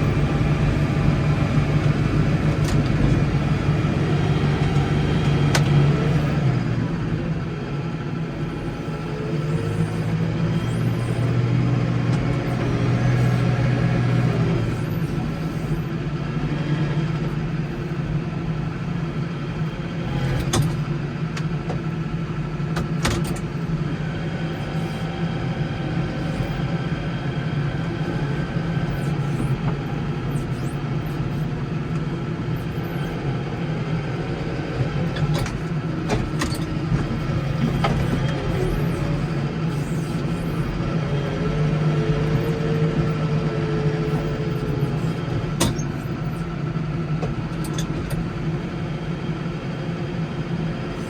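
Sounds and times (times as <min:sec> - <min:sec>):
garden tractor engine running: 0:00.0 - 0:51.0.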